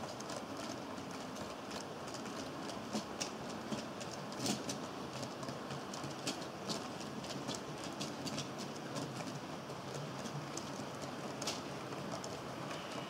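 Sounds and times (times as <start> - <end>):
wheels clicking: 0.0 - 13.0.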